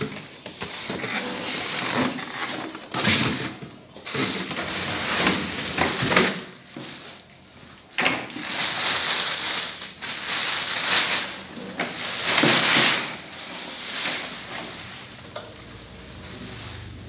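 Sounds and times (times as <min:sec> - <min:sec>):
plastic wrapping rustling: 0:00.0 - 0:17.0.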